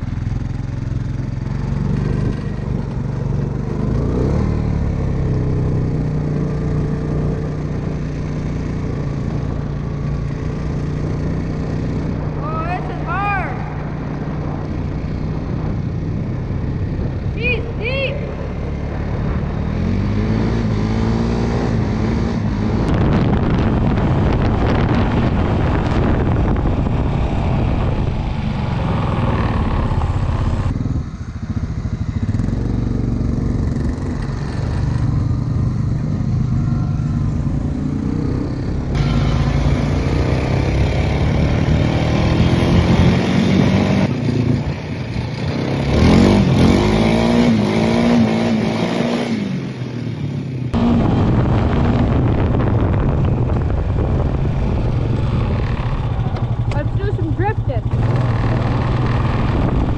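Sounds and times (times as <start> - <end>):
off-road vehicle engine revving: 0.0 - 53.1, 53.7 - 59.9.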